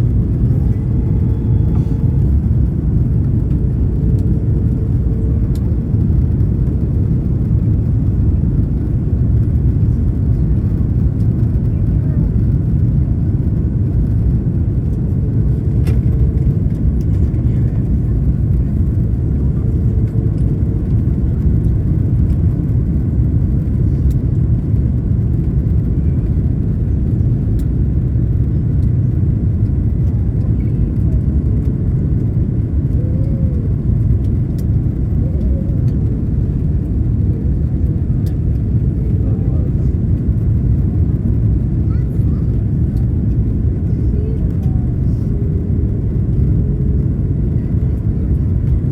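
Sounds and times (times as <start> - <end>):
aircraft cabin rumble: 0.0 - 48.9.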